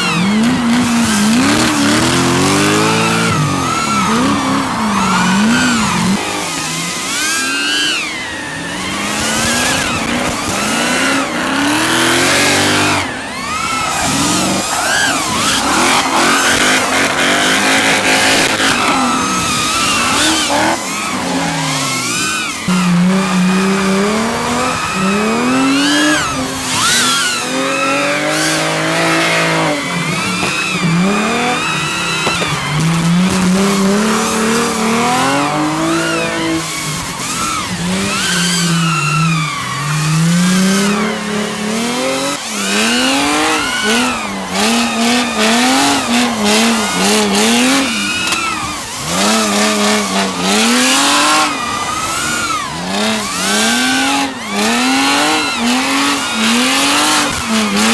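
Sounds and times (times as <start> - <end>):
car engine revving: 0.0 - 57.9
tyres squealing and skidding: 0.0 - 57.9.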